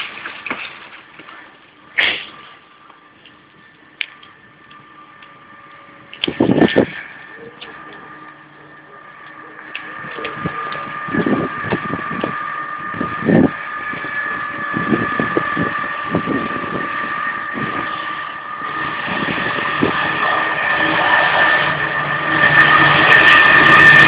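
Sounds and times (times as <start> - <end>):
diesel locomotive engine whine: 0.0 - 24.0.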